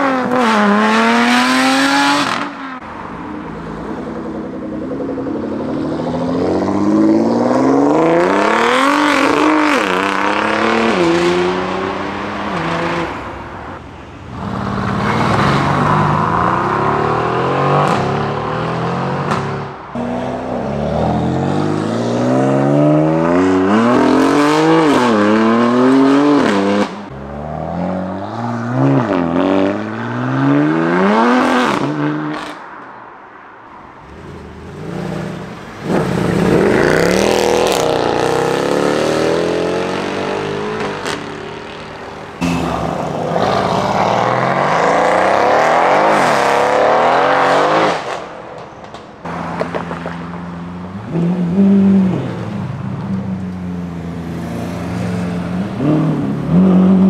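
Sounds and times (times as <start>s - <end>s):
cars accelerating hard: 0.0s - 3.0s, 3.9s - 13.3s, 14.4s - 32.7s, 34.0s - 48.4s, 53.9s - 57.0s.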